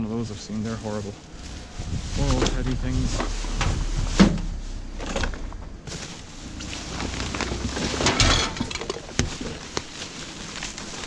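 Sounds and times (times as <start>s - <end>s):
rustling clatter: 0.2s - 11.0s.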